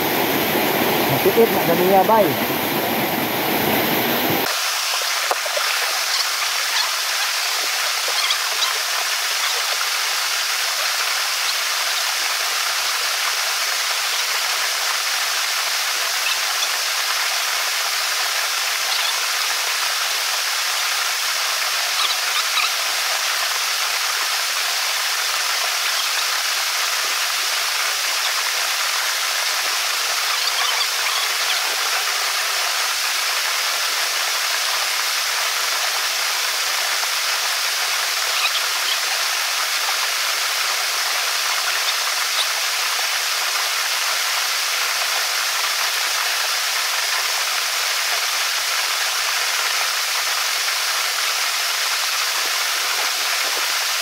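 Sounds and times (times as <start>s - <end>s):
waterfall pouring: 0.0s - 54.0s.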